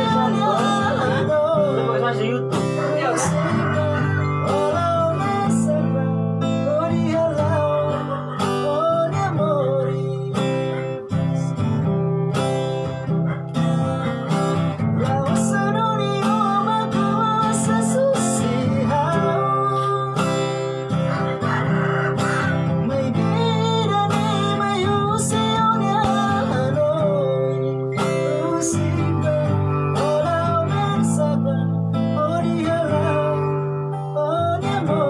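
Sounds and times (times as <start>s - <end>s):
man singing: 0.0s - 11.9s, 13.6s - 35.0s
acoustic guitar strumming: 0.0s - 35.0s.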